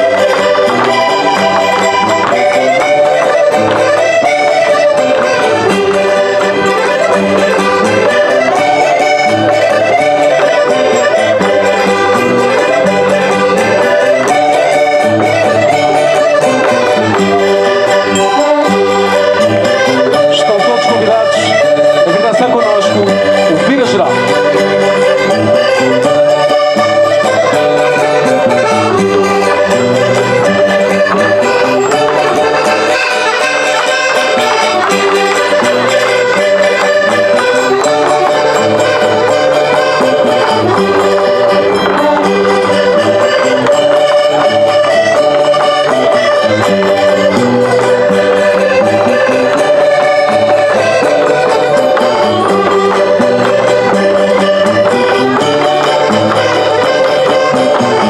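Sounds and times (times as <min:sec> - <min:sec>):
accordion dance tune: 0:00.0 - 0:58.0
light percussion: 0:00.0 - 0:58.0.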